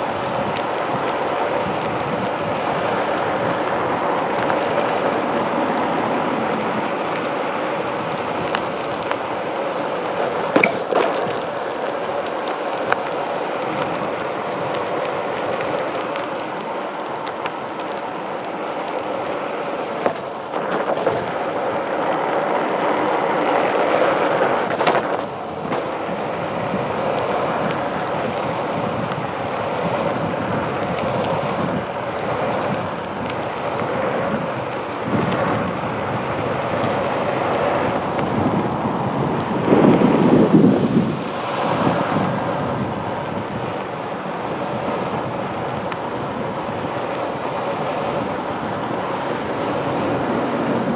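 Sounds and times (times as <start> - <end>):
tyre rumbling on pavement: 0.0 - 50.9
wind buffeting microphone: 0.0 - 50.9.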